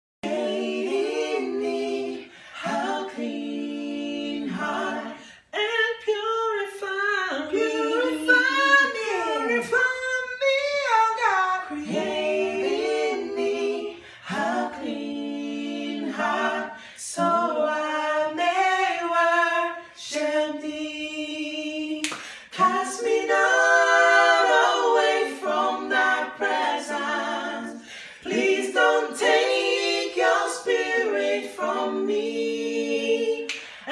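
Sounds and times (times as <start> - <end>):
men singing a cappella: 0.2 - 33.9.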